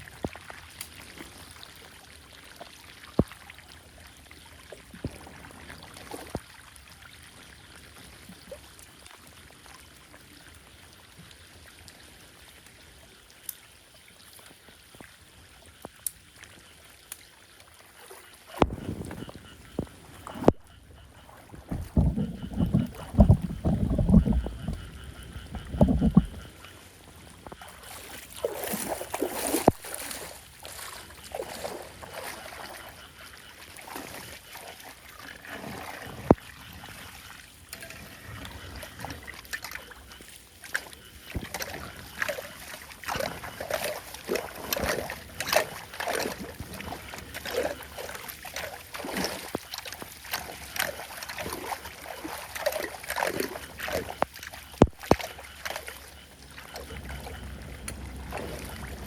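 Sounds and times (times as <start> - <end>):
floodwater splashing and sloshing: 0.0 - 59.0.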